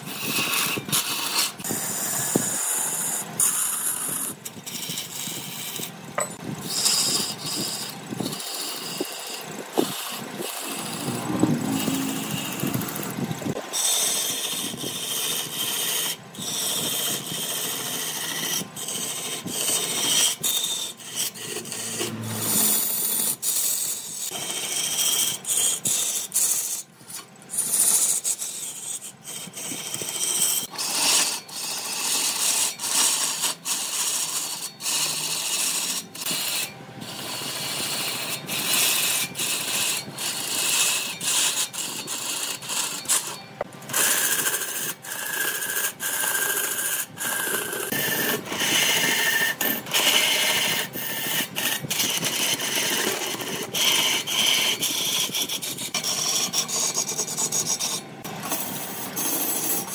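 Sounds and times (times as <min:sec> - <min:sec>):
lathe tool scraping wood: 0:00.0 - 0:59.9.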